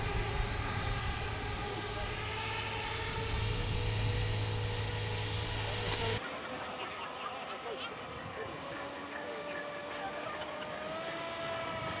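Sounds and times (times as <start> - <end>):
model hovercraft fans whining: 0.0 - 12.0.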